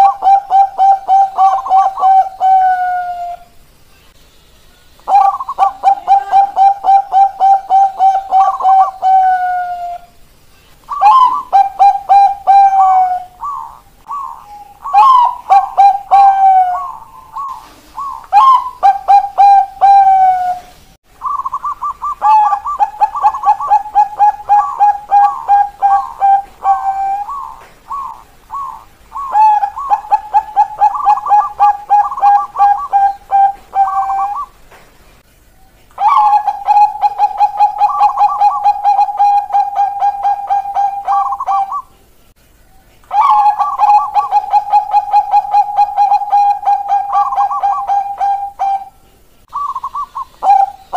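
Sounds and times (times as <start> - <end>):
doves cooing: 0.0 - 3.5, 5.1 - 10.2, 10.9 - 34.8, 36.0 - 42.0, 42.7 - 50.9.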